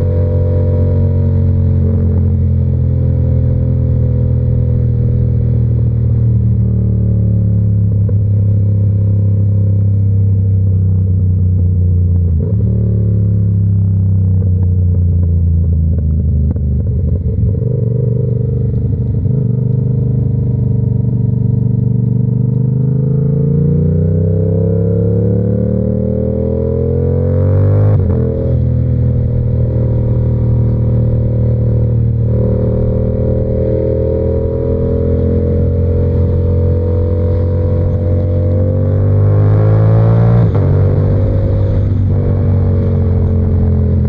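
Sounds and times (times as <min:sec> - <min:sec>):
motorcycle engine: 0:00.0 - 0:44.0.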